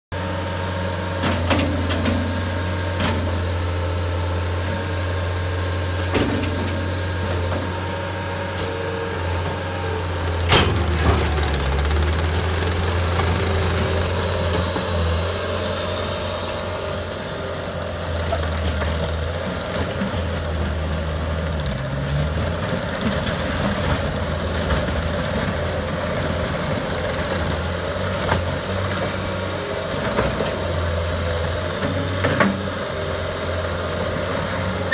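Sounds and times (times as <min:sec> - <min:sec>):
diesel engine working under load: 0:00.1 - 0:34.9.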